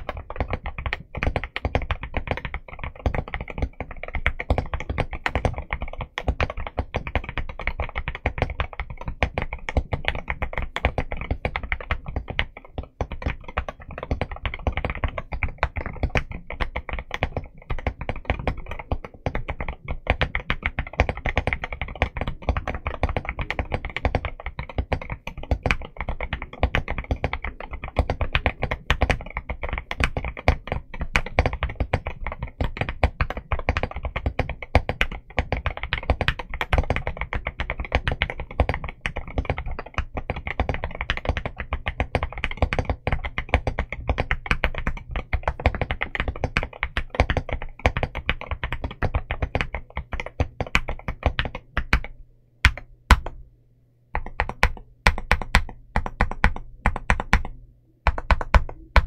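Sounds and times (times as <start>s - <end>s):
fast typing on mechanical keyboard: 0.0s - 53.4s, 54.2s - 59.0s.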